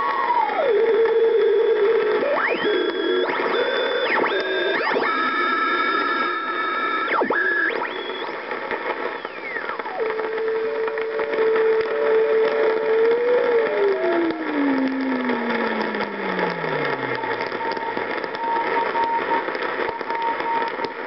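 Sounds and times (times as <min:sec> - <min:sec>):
radio static hiss: 0:00.0 - 0:21.0
radio whistling beat tones: 0:00.0 - 0:21.0.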